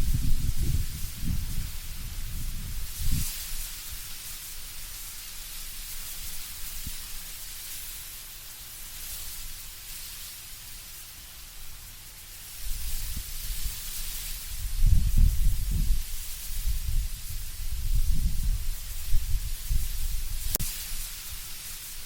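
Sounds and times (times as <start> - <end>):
leaves rustling: 0.0 - 22.0
wind through trees: 0.0 - 22.0.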